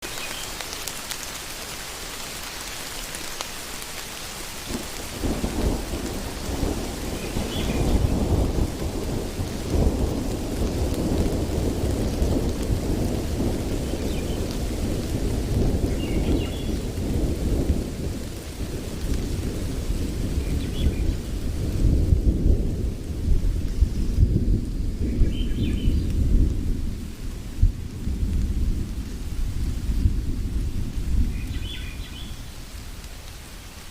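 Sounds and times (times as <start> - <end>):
rain hiss: 0.0 - 33.9.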